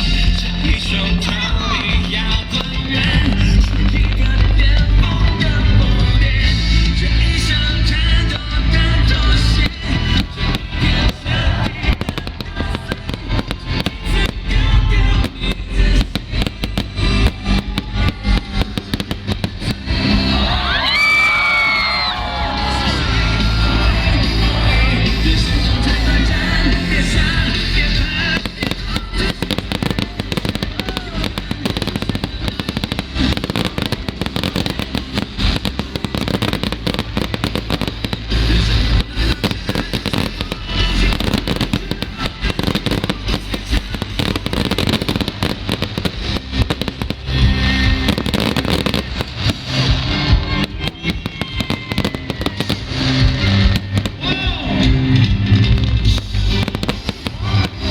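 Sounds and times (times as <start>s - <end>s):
fireworks bangs and crackles: 0.0s - 57.9s
music playing: 0.0s - 57.9s.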